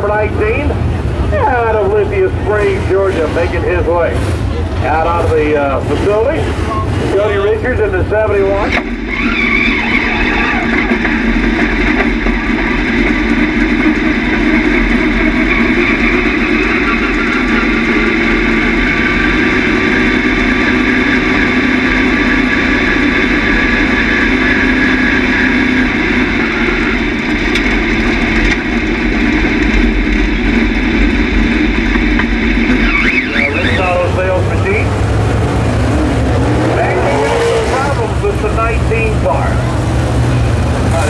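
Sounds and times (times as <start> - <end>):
race car engine running: 0.0 - 41.0.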